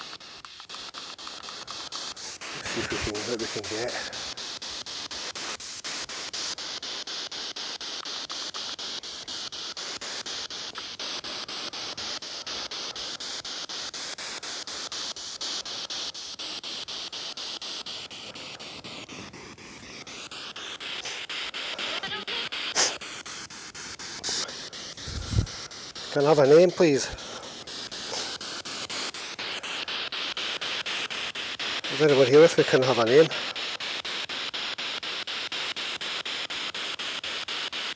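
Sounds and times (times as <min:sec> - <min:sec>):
radio static sweeping in steps: 0:00.0 - 0:37.9
short sharp burst: 0:00.0 - 0:37.9.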